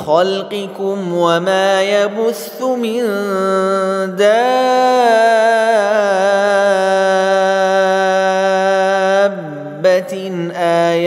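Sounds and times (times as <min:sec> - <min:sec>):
man chanting a long vowel: 0:00.0 - 0:11.0.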